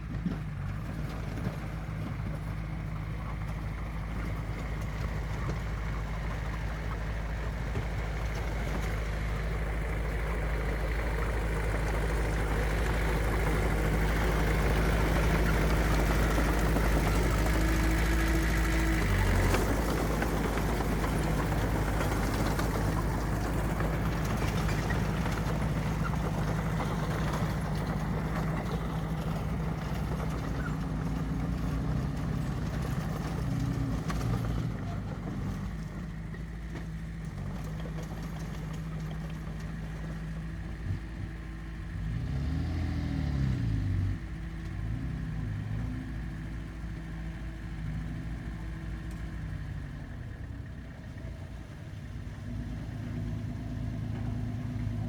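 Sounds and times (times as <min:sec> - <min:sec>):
heavy machine diesel engine: 0:00.0 - 0:55.0.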